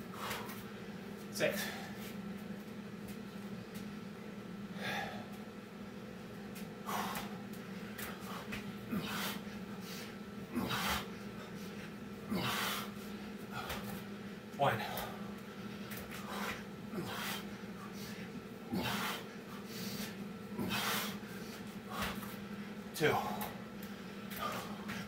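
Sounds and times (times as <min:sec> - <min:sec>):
man breathing heavily: 0:00.0 - 0:02.2, 0:04.7 - 0:05.4, 0:06.8 - 0:25.0
steady low hum: 0:00.0 - 0:25.0.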